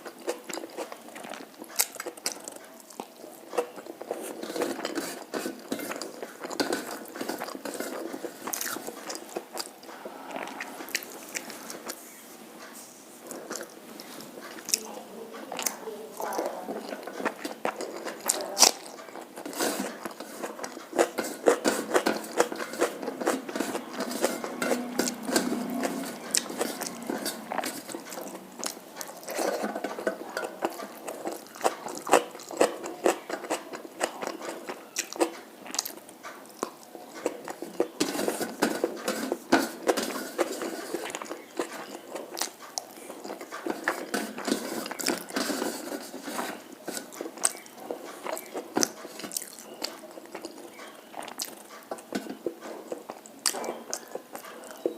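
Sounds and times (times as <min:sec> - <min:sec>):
person chewing with wet mouth sounds: 0:00.0 - 0:54.9.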